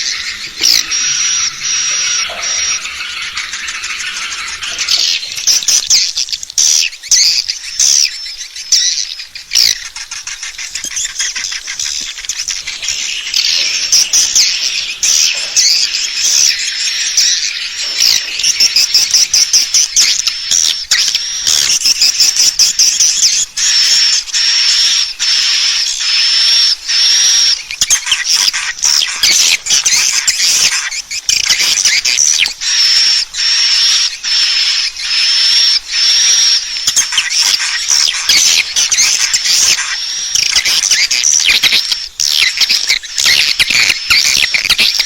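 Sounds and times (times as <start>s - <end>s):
high-pitched bird twittering call: 0.0s - 45.0s.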